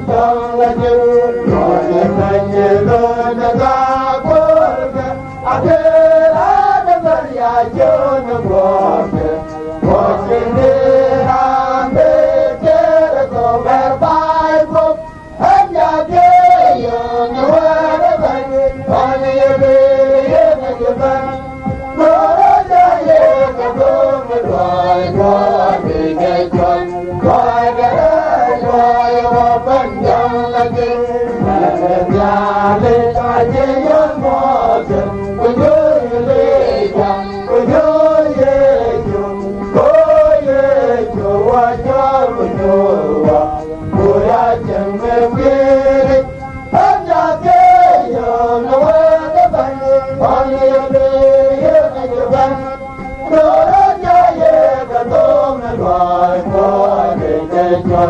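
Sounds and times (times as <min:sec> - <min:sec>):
musical accompaniment: 0:00.0 - 0:58.0
voices singing gospel song: 0:00.0 - 0:58.0.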